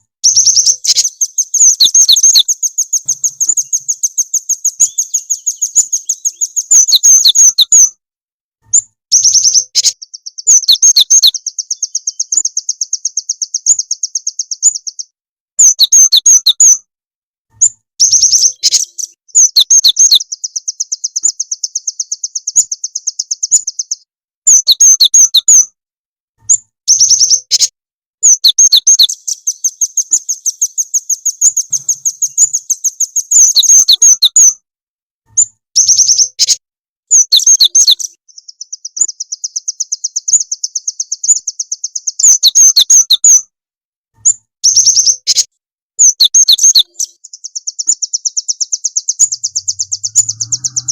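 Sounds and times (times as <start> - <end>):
bird chirps and trills: 0.2 - 8.0, 8.7 - 16.8, 17.6 - 25.7, 26.5 - 34.6, 35.4 - 43.4, 44.2 - 50.9.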